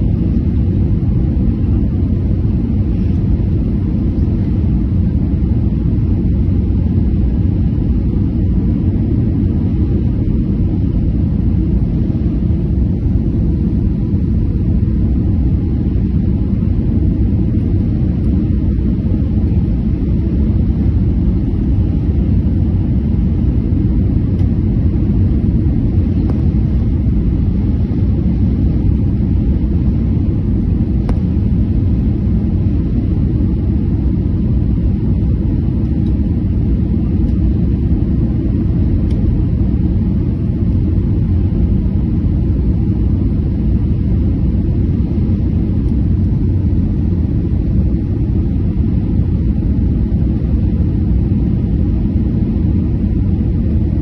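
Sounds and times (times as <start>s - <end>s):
airliner engine rumble in cabin: 0.0s - 54.0s.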